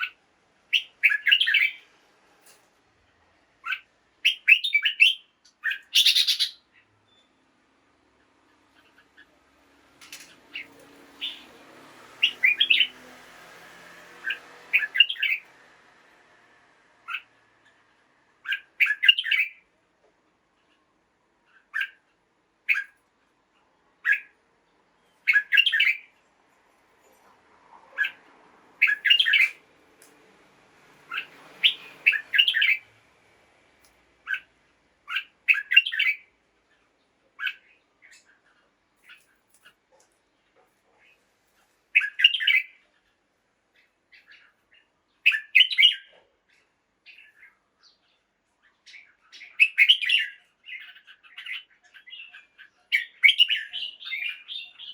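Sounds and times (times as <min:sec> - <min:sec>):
bird chirping: 0:00.0 - 0:01.9, 0:03.6 - 0:13.2, 0:14.1 - 0:15.6, 0:17.0 - 0:19.8, 0:20.6 - 0:23.0, 0:23.6 - 0:26.2, 0:27.8 - 0:29.6, 0:31.0 - 0:33.0, 0:34.2 - 0:41.2, 0:41.9 - 0:54.9.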